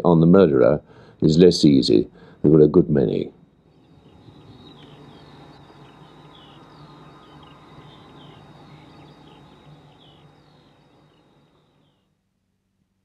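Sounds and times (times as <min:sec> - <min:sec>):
faint steady hum: 0:00.0 - 0:13.0
birds chirping: 0:00.8 - 0:12.1.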